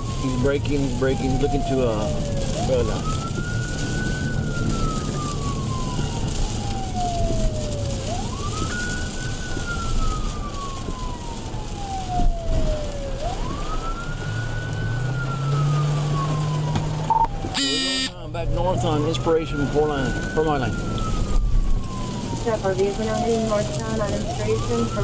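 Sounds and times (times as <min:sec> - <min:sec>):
car engine and road noise: 0:00.0 - 0:25.0
police siren wailing: 0:00.0 - 0:25.0.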